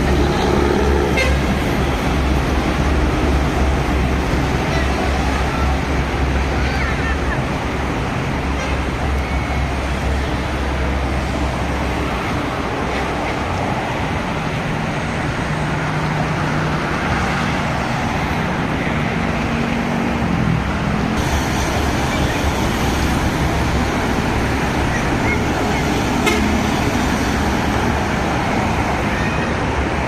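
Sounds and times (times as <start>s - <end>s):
heavy vehicle engine: 0.0s - 30.0s
road traffic passing: 0.0s - 30.0s.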